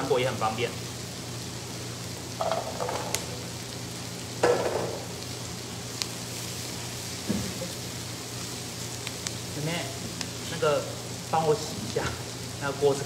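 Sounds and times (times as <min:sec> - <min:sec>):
carrots sizzling in frying pan: 0:00.0 - 0:13.0
vegetables frying: 0:00.0 - 0:13.0.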